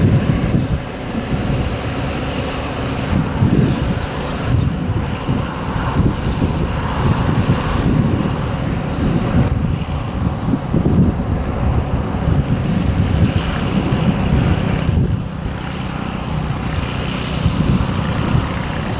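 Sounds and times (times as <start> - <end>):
tractor engine running: 0.0 - 18.9
wind buffeting microphone: 0.0 - 18.9.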